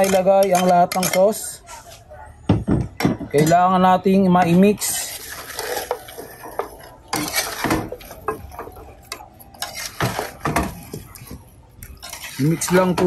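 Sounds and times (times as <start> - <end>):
utensils scraping and clanking on pan: 0.0 - 2.0, 4.4 - 13.0.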